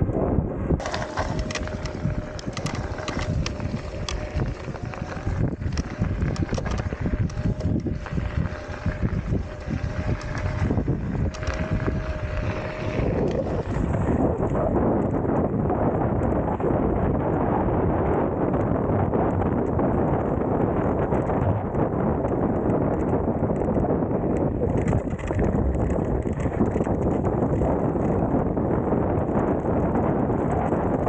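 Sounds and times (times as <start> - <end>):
wind buffeting microphone: 0.0 - 31.0
scooter rattling and knocking: 0.8 - 15.4, 19.5 - 31.0.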